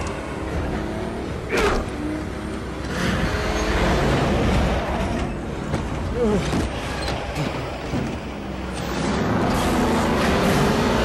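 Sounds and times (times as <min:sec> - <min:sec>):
road noise: 0:00.0 - 0:11.0
vehicle engines running: 0:00.0 - 0:11.0.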